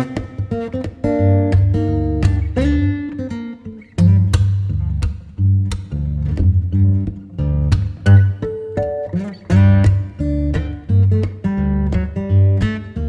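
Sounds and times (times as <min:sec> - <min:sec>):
guitar plucked and strummed: 0:00.0 - 0:13.0.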